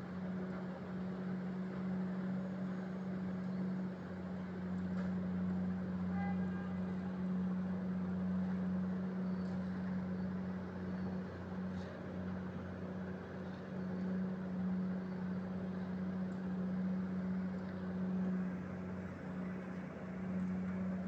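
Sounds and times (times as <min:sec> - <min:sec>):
road machinery engines humming: 0:00.0 - 0:21.0.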